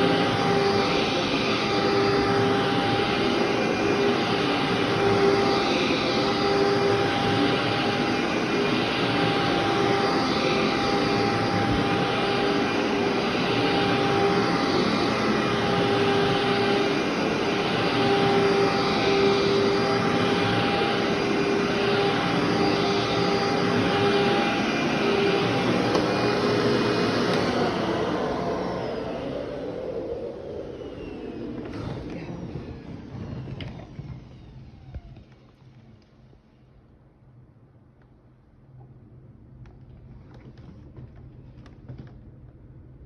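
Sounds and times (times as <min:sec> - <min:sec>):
vacuum cleaner motor hum: 0:00.0 - 0:37.0.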